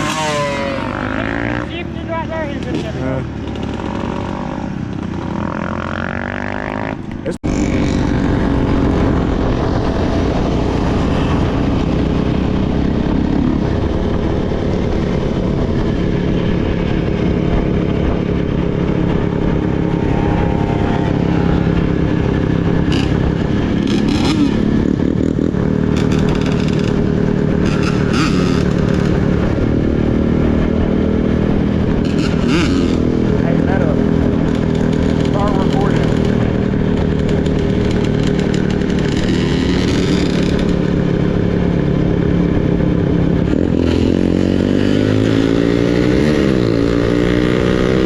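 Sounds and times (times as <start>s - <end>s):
dirt bike engine revving: 0.0s - 15.3s, 19.1s - 48.0s.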